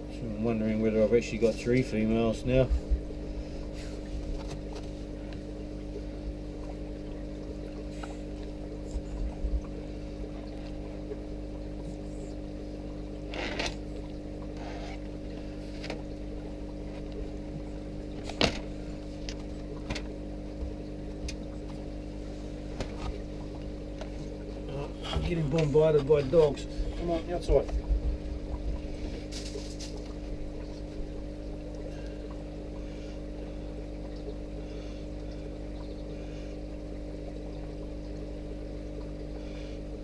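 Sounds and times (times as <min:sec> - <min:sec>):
aquarium equipment humming: 0:00.0 - 0:40.0.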